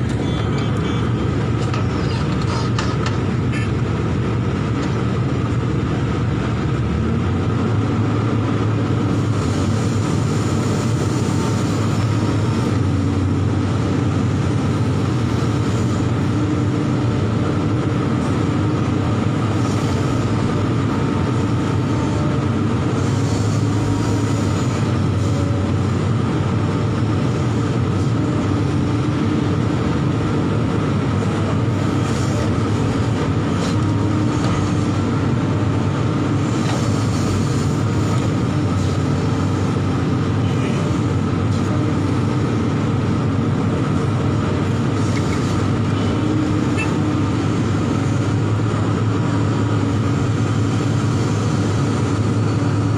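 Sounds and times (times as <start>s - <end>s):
excavator diesel engine humming: 0.0s - 52.9s.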